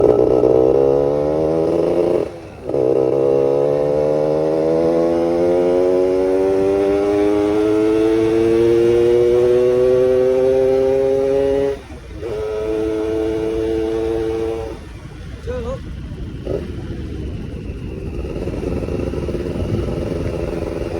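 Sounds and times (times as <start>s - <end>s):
motorcycle accelerating through gears: 0.0s - 20.9s.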